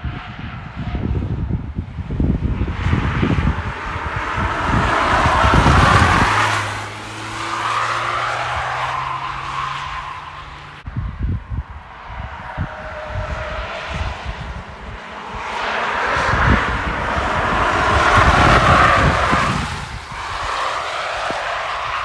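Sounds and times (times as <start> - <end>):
wind buffeting microphone: 0.0 - 22.0
car passing: 1.8 - 22.0.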